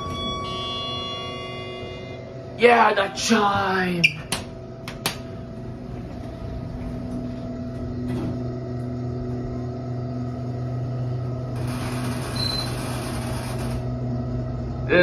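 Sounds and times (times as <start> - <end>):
elevator hum and rumble: 0.0 - 15.0.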